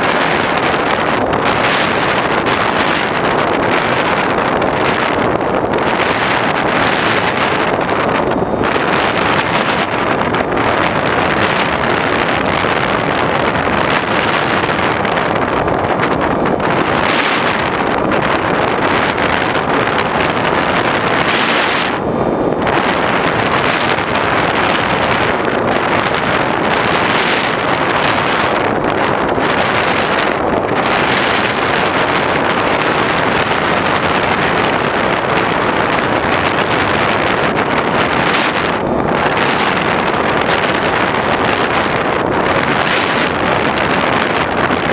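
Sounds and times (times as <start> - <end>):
propeller noise: 0.0 - 44.9
wind rushing: 0.0 - 44.9.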